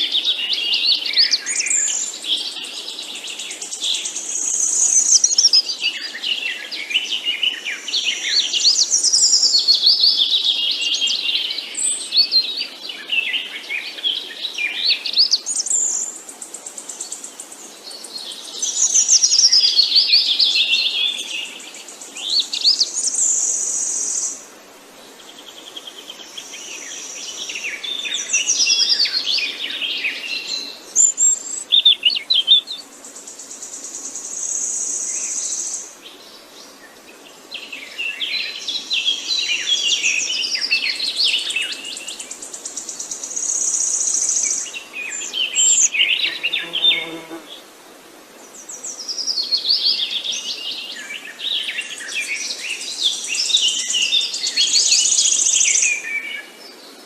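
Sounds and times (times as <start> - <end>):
songbirds chirping and singing: 0.0 - 24.4, 25.2 - 47.5.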